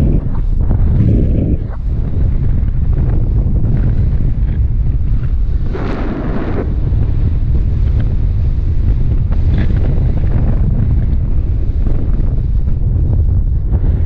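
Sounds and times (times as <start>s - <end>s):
rushing gust of wind: 0.0s - 14.0s
wind buffeting microphone: 0.0s - 14.0s.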